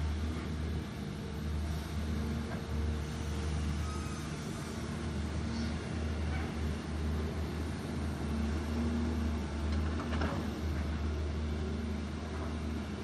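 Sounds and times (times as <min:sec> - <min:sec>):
diesel excavator engines droning: 0:00.0 - 0:13.0.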